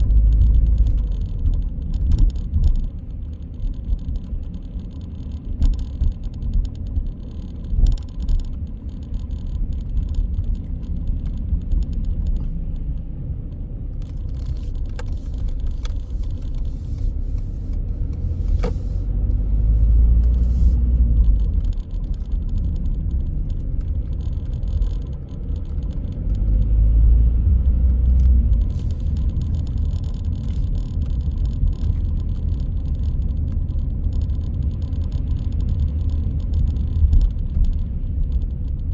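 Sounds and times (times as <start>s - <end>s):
car engine and tyre rumble: 0.0s - 38.9s
light clicks and rattles: 0.0s - 38.9s.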